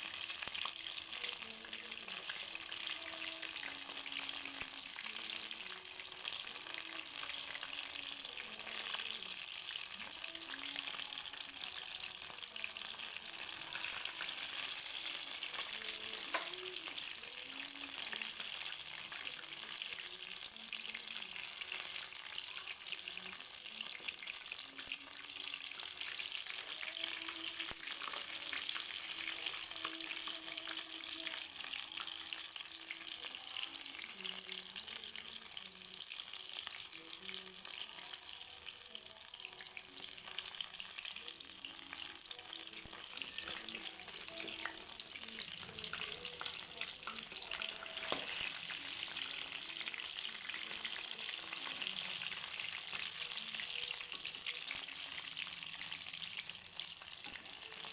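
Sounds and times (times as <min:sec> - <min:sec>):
chicken deep-frying in oil: 0:00.0 - 0:57.9.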